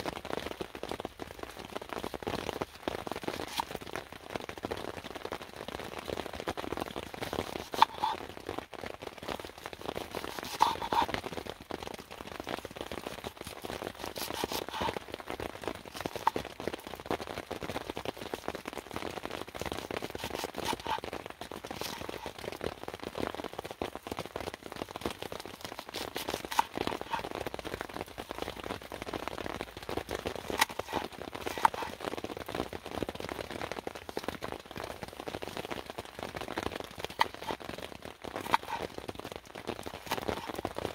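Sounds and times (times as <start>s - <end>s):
rain and drips pattering: 0.0s - 40.9s.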